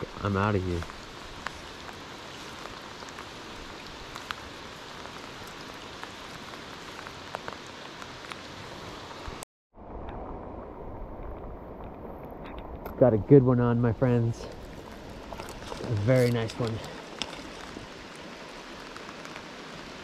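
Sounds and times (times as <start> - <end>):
rain falling on river: 0.0 - 20.0.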